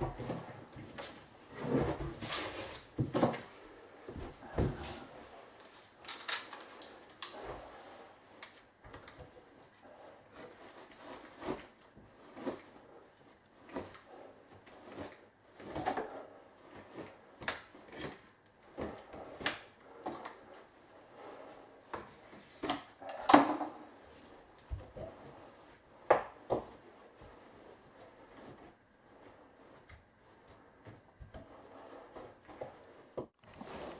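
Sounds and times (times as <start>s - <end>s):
insulation rustling and scraping: 0.0s - 23.0s, 23.7s - 33.9s.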